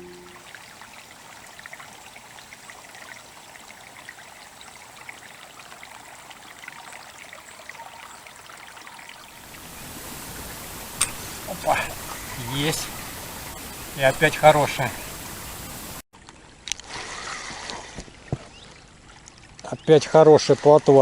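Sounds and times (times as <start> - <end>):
river water trickling and lapping: 0.0 - 21.0.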